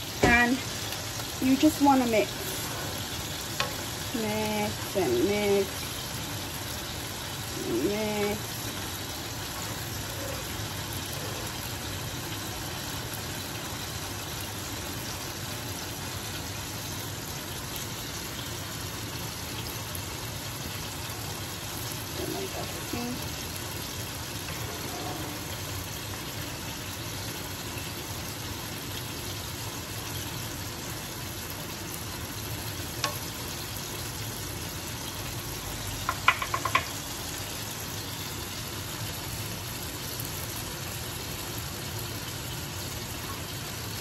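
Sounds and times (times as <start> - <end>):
range hood fan hissing: 0.0 - 44.0.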